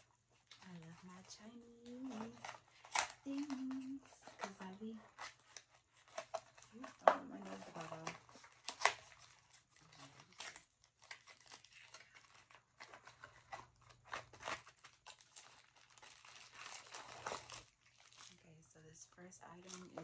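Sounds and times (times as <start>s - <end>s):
cardboard box crinkling and tearing: 0.0s - 18.4s.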